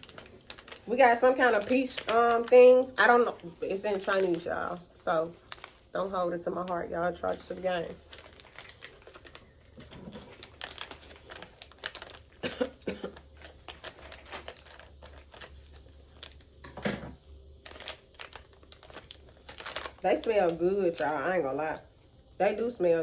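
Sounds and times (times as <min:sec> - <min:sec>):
plastic wrapper crinkling: 0:00.0 - 0:21.4.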